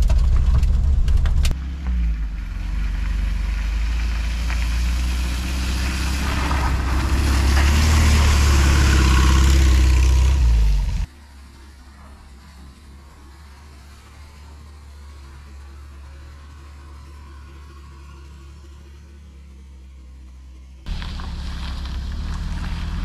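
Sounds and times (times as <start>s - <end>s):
van engine low hum: 0.0s - 23.0s.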